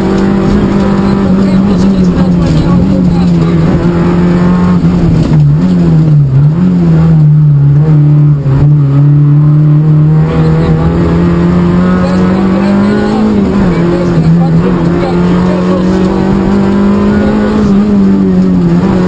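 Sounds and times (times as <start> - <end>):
car engine from inside cabin: 0.0 - 19.0.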